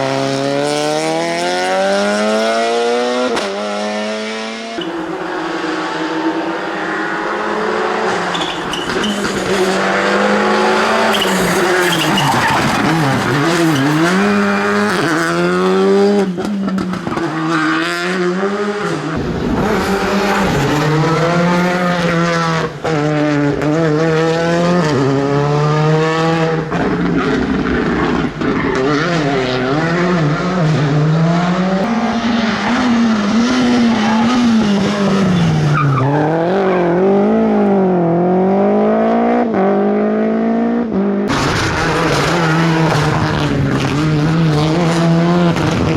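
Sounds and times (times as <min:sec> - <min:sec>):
rally car engine revving: 0:00.0 - 0:45.9.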